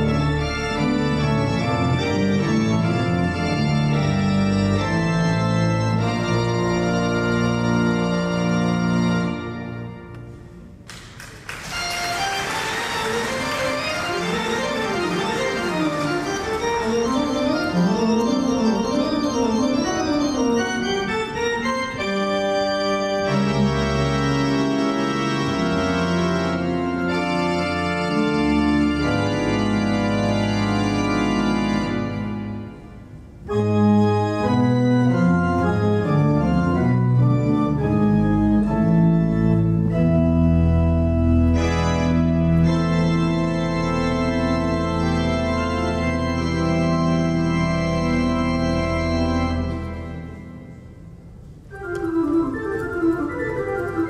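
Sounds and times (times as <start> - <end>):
organ music: 0.0 - 54.0.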